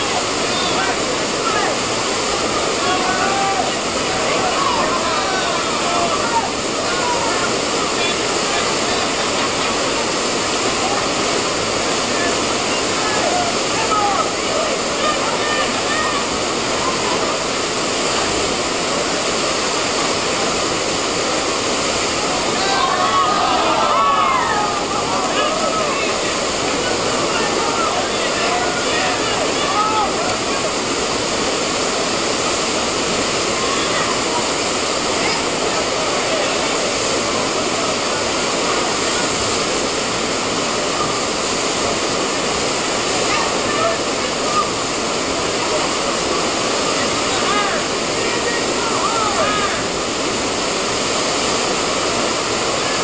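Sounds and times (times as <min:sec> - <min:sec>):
whitewater rapids rushing: 0:00.0 - 0:53.0.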